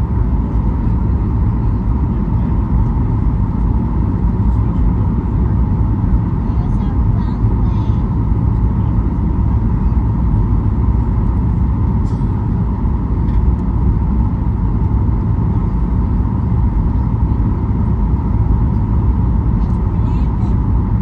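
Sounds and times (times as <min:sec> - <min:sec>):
airplane cabin airflow rush: 0:00.0 - 0:21.0
jet engine noise: 0:00.0 - 0:21.0
steady hum: 0:00.0 - 0:21.0.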